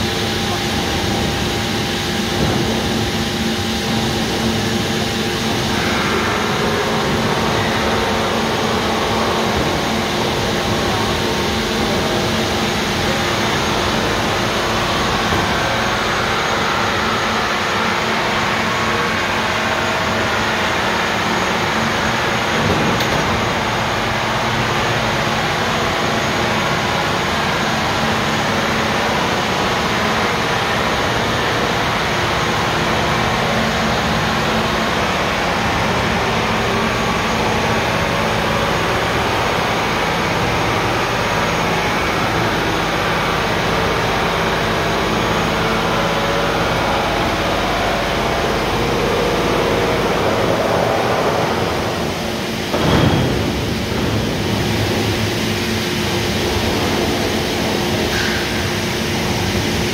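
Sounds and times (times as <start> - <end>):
industrial machinery din: 0.0 - 59.9.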